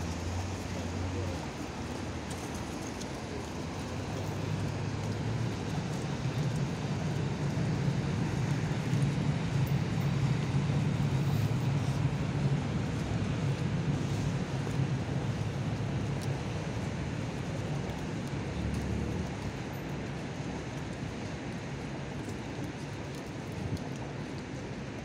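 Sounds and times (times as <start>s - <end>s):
freight train passing: 0.0s - 20.2s.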